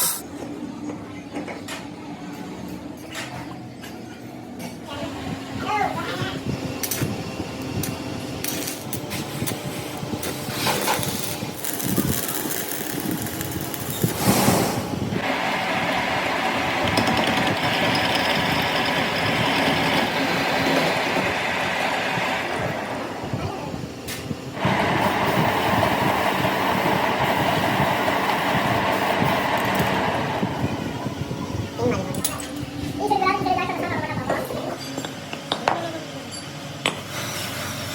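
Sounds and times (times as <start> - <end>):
machine running steadily: 5.0 - 37.0.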